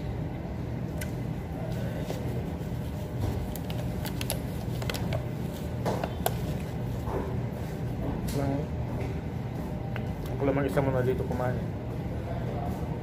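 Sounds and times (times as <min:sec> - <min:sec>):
low hum of dining hall: 0:00.0 - 0:13.0.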